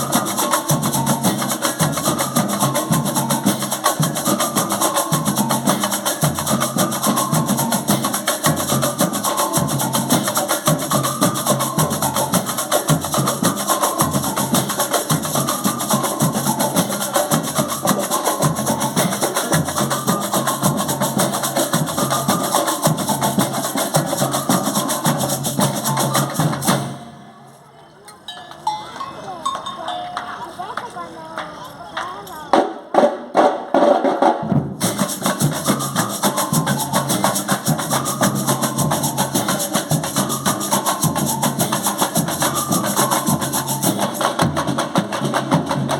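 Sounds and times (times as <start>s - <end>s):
band playing percussion music: 0.0s - 27.5s, 28.2s - 45.9s.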